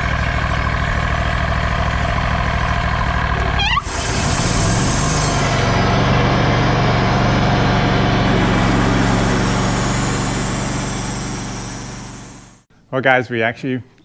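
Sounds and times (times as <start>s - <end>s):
large engine humming: 0.0s - 12.7s.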